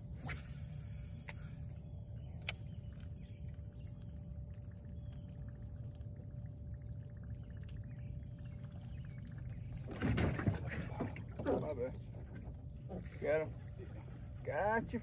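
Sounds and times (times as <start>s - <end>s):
thin hum: 0.0s - 15.0s.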